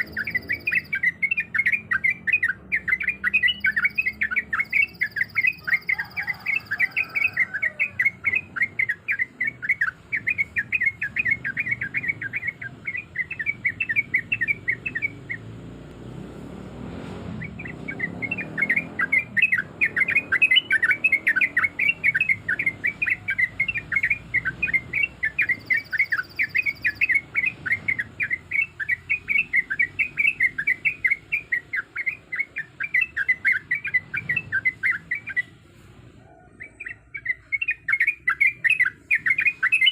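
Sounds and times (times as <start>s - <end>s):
bird singing repeated notes: 0.0s - 35.7s, 36.3s - 39.9s.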